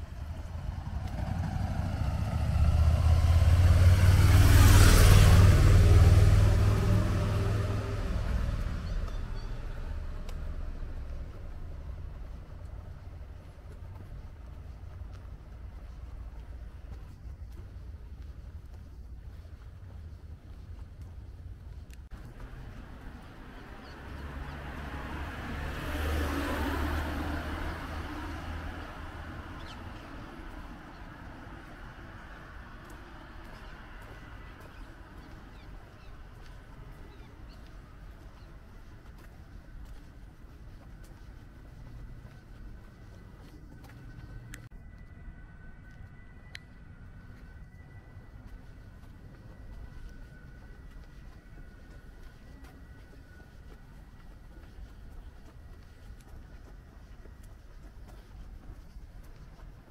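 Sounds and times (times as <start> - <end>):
vehicle driving past: 0.0 - 16.7, 22.1 - 59.9.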